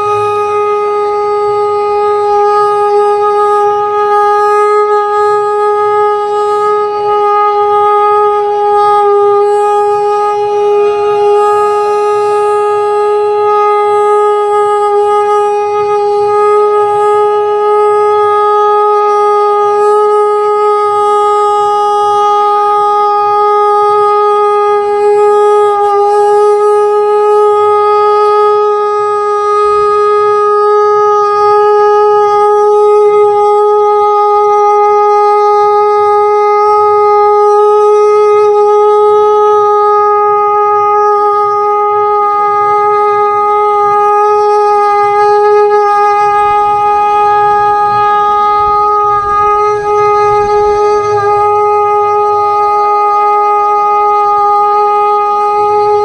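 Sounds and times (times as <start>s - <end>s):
conch shell blown: 0.0s - 56.0s
faint bending second tone: 0.0s - 56.0s.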